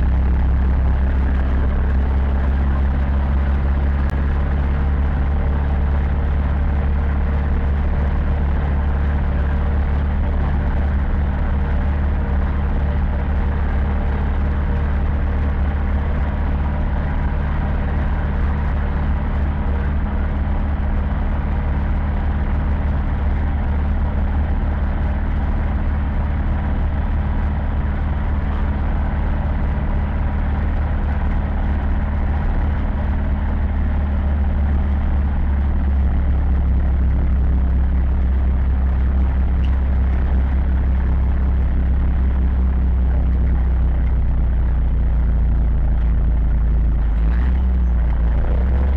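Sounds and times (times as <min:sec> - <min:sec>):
tractor diesel engine drone: 0:00.0 - 0:48.9.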